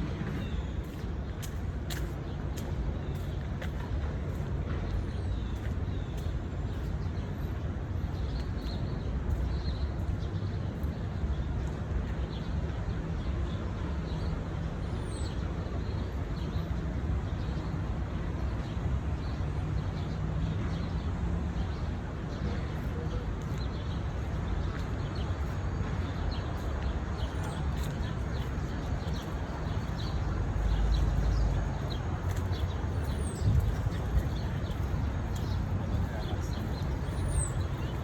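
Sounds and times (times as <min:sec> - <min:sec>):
distant city traffic rumble: 0:00.0 - 0:38.0.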